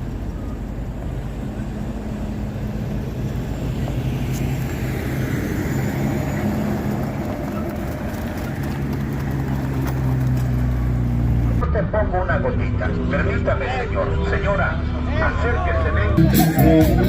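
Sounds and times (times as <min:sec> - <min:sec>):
road and wind noise: 0:00.0 - 0:17.0
vehicle engine humming: 0:00.0 - 0:17.0.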